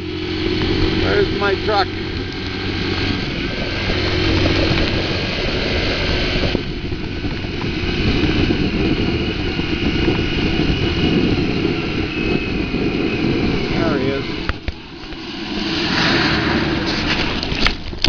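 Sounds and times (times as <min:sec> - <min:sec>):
motorcycle running: 0:00.0 - 0:18.0
wind rushing over microphone: 0:00.0 - 0:18.0.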